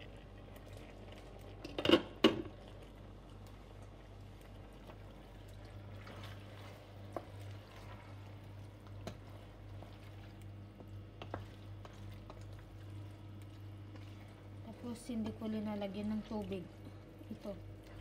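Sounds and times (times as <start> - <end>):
squid squelching in a pan: 0.0 - 18.0
steady low hum: 0.0 - 18.0.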